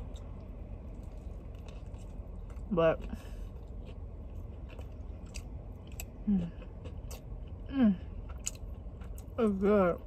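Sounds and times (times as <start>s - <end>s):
close-up chewing: 0.0s - 10.0s
steady low rumble: 0.0s - 10.0s.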